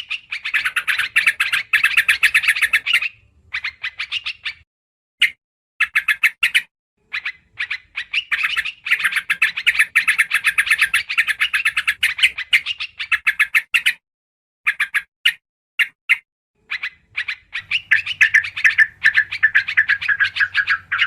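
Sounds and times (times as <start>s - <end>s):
bird chattering calls: 0.0s - 4.6s, 5.2s - 14.0s, 16.6s - 21.0s.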